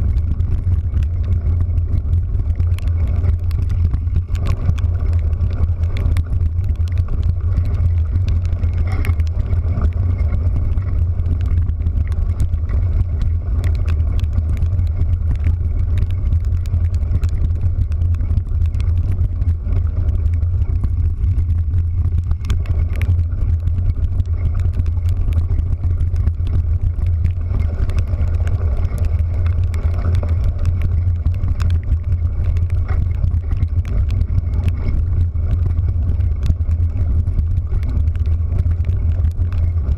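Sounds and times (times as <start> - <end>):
faint ticks: 0.0 - 39.9
vehicle driving rumble: 0.0 - 39.9.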